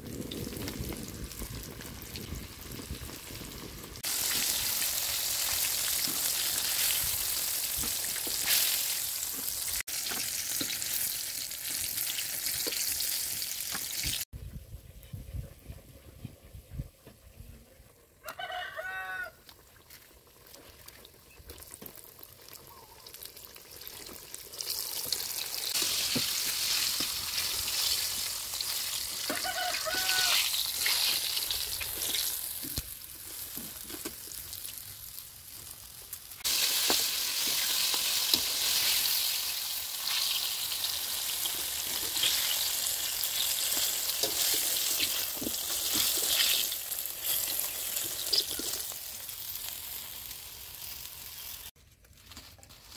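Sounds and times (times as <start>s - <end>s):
hot oil sizzling: 0.0s - 14.3s, 18.8s - 51.8s.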